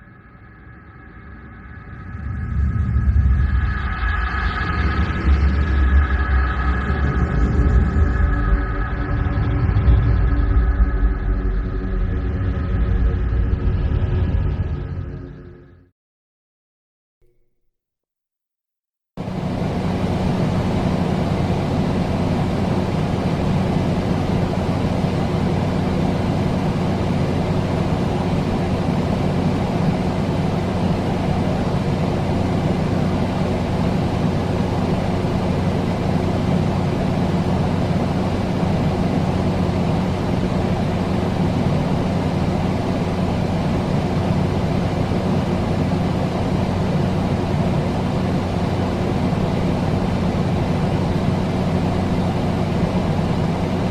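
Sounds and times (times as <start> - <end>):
steady machine drone: 0.0 - 15.9, 19.2 - 53.9.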